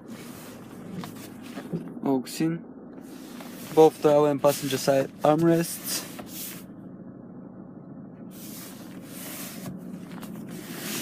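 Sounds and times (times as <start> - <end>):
vehicle idling hum and hiss: 0.0 - 7.3, 8.0 - 11.0.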